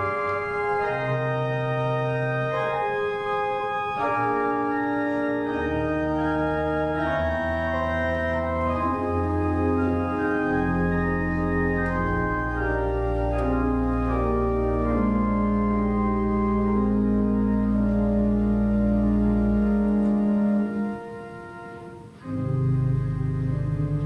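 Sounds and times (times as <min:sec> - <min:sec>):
organ playing slow chords: 0:00.0 - 0:24.0.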